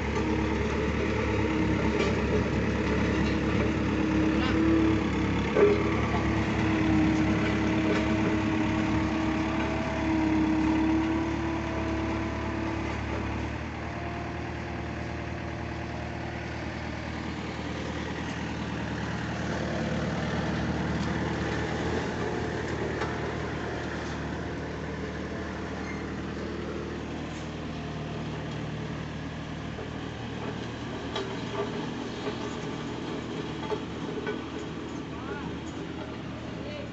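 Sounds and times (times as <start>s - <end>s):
road roller engine running: 0.0s - 36.9s.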